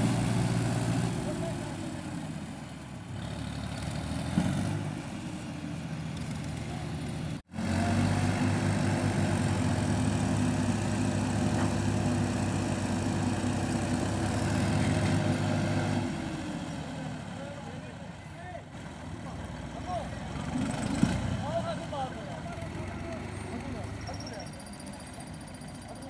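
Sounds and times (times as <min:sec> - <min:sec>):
tractor diesel engine running hard: 0:00.0 - 0:26.0.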